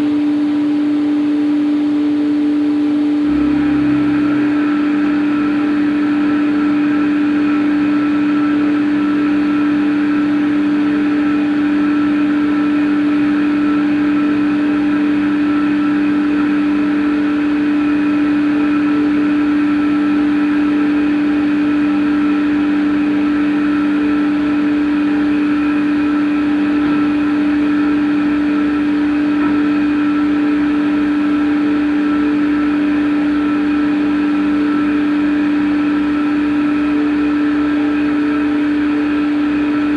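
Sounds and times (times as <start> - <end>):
cnc machine whine: 0.0 - 39.9.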